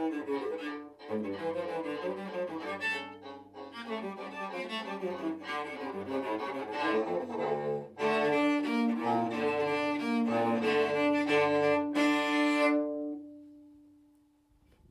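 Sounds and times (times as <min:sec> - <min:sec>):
cello ensemble playing: 0:00.0 - 0:13.4.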